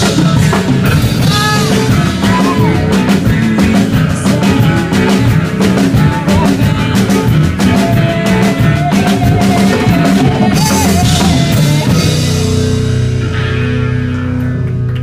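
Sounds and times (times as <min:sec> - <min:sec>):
guitar and bass chords ringing: 0:00.0 - 0:15.0
rock band playing live: 0:00.0 - 0:15.0.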